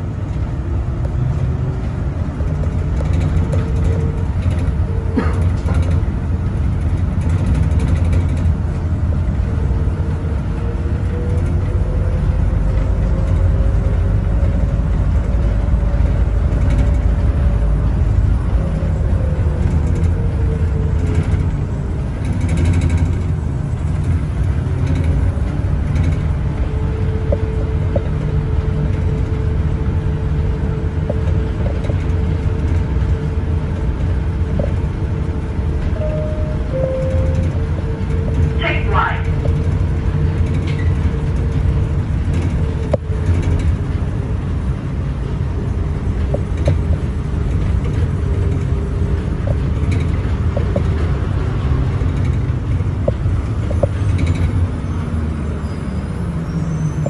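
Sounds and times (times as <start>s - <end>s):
train deep rumble: 0.0s - 57.0s.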